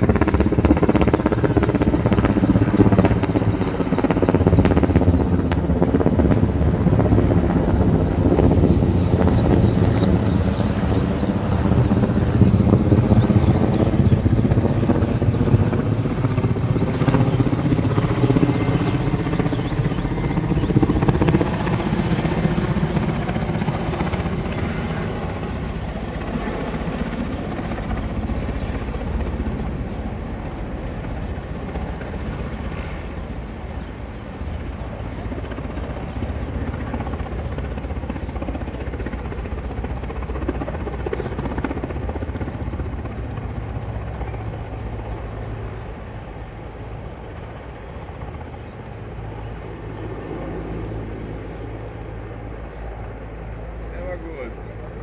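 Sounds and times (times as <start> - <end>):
helicopter rotor beating: 0.0 - 55.0.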